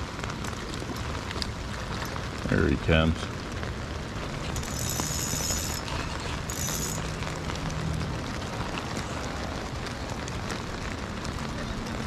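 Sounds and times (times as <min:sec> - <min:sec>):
rain pattering on water: 0:00.0 - 0:12.0.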